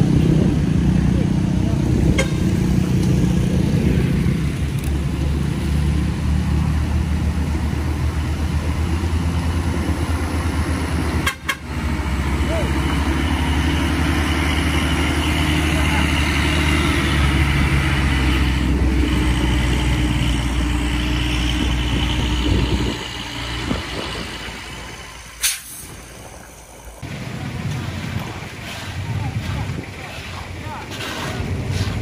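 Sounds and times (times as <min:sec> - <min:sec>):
diesel truck engine passing: 0:00.0 - 0:32.0
outdoor ambience: 0:00.0 - 0:32.0.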